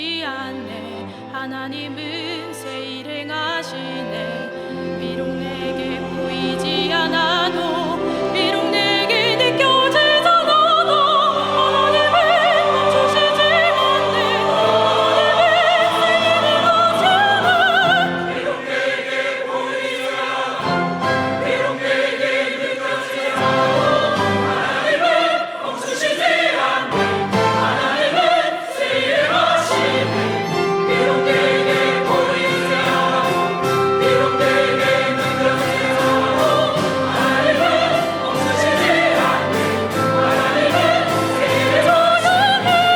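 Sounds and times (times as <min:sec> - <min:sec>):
piano: 0:00.0 - 0:19.0, 0:20.1 - 0:25.6, 0:26.3 - 0:42.9
strings and winds: 0:00.5 - 0:42.9
church choir singing with vibrato: 0:03.6 - 0:42.9.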